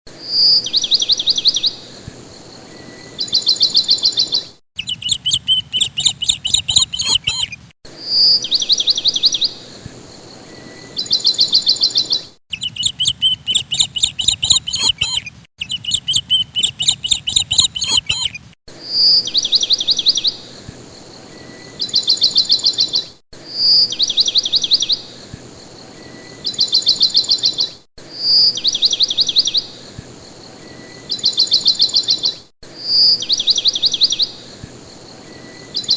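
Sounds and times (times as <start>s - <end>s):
lovebirds chirping: 0.3s - 23.0s, 23.6s - 35.9s.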